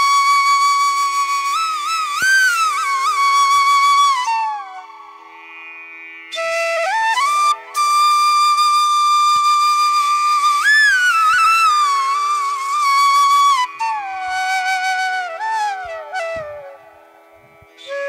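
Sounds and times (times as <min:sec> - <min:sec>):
flute playing slow melody: 0:00.0 - 0:05.3, 0:06.3 - 0:18.0.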